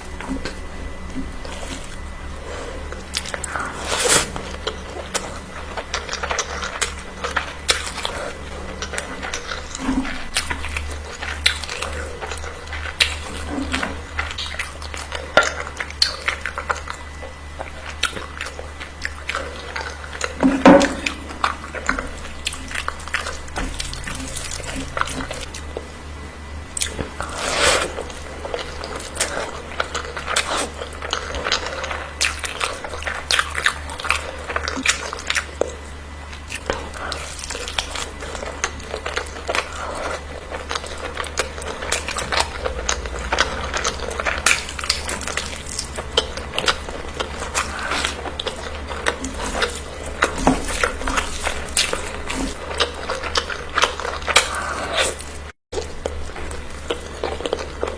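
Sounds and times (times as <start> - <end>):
person biting and chewing food: 0.0 - 26.0, 26.7 - 57.9
low hum: 0.0 - 57.9.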